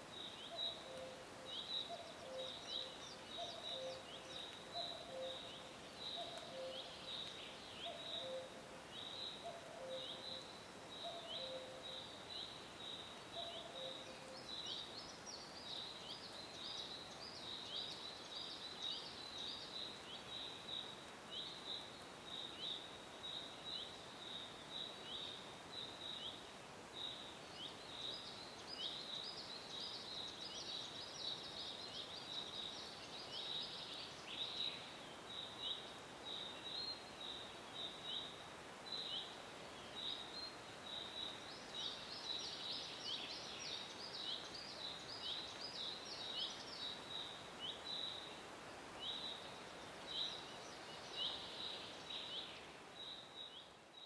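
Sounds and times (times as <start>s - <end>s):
small birds chirping: 0.0s - 26.4s, 27.0s - 54.0s
steady soft hiss: 0.0s - 54.0s.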